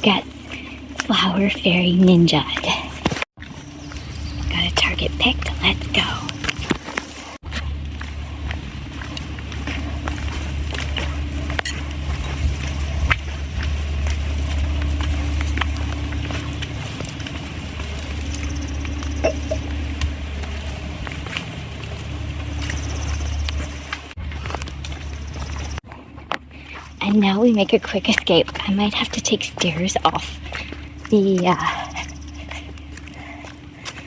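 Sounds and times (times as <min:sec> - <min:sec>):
faint footsteps: 0:00.0 - 0:34.0
steady low rumble: 0:00.0 - 0:34.0.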